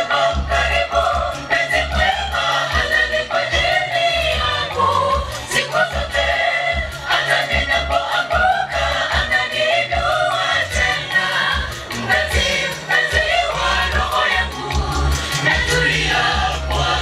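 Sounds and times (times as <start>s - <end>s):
group of voices singing gospel: 0.0s - 17.0s
pulsing bass: 0.0s - 17.0s.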